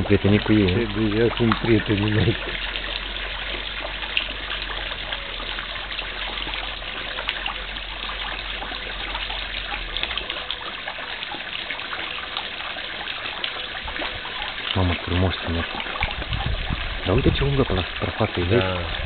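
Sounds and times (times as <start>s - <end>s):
small splashes ticking: 0.0s - 19.0s
water trickling into pond: 0.0s - 19.0s.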